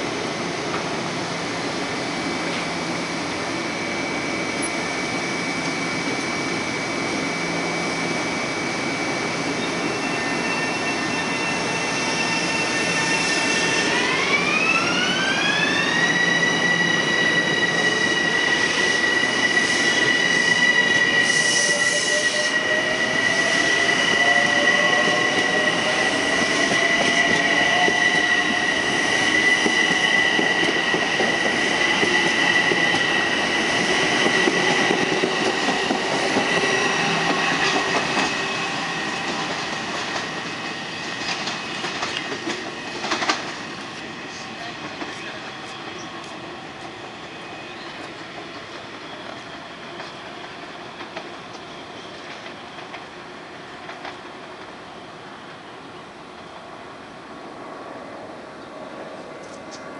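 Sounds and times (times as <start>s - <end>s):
electric train hum: 0.0s - 59.9s
train propulsion whine rising: 0.0s - 59.9s.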